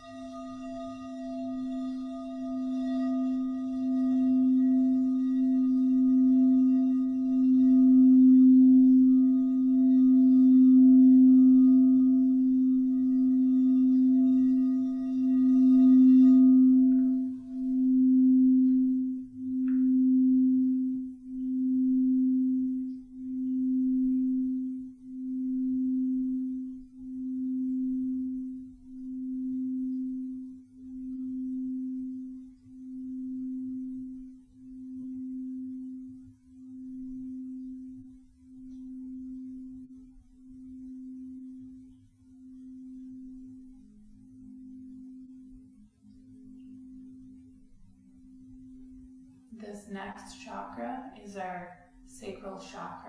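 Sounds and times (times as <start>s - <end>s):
crystal singing bowl ringing: 0.0s - 53.0s.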